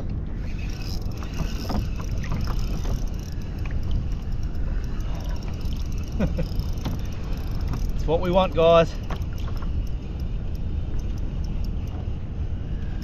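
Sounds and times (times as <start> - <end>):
small waves lapping against hull: 0.0 - 13.0
wind rumble on microphone: 0.0 - 13.0
faint light ticks: 0.8 - 13.0.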